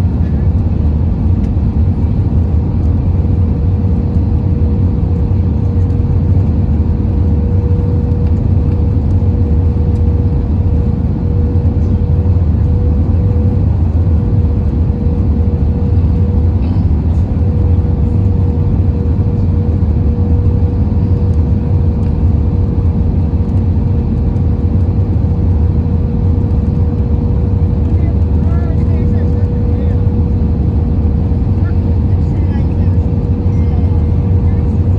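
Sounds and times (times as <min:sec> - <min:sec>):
aircraft cabin rumble: 0:00.0 - 0:34.9.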